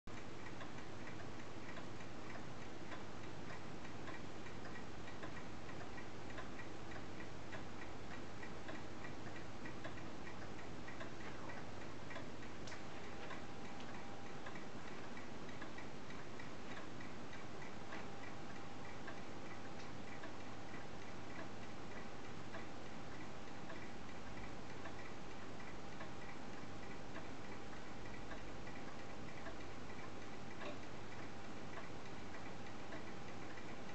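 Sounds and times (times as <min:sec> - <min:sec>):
pendulum clock ticking: 0:00.1 - 0:33.9.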